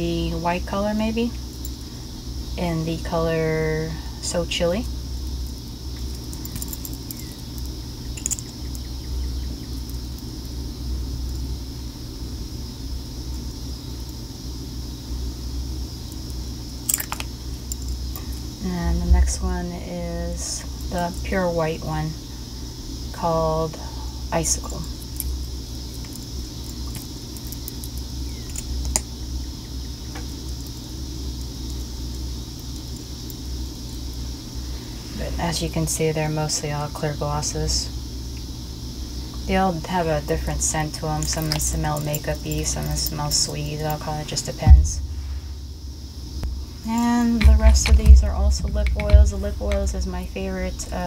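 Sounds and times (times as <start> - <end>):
low background rumble: 0.0 - 51.0
steady low hum: 0.0 - 51.0.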